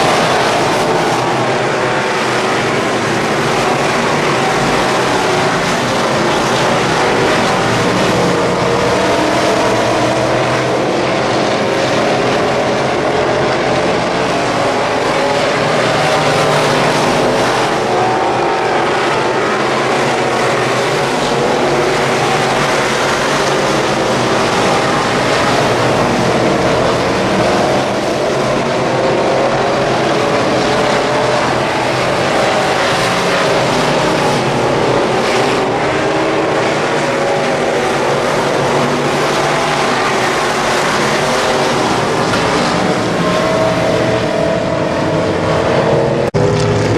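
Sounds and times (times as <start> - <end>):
race car engines revving: 0.0 - 46.9.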